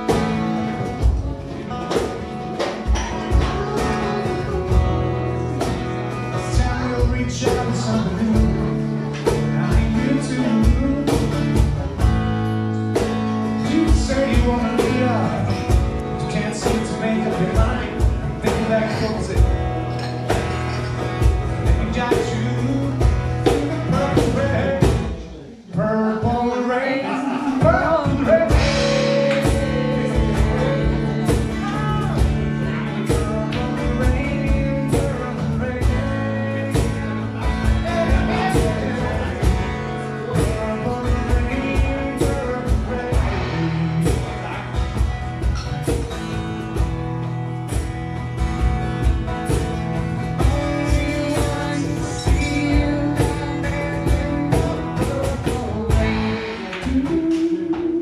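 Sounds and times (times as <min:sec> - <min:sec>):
man singing: 0:00.0 - 0:46.9, 0:48.4 - 0:58.0
acoustic guitar strumming: 0:00.0 - 0:58.0.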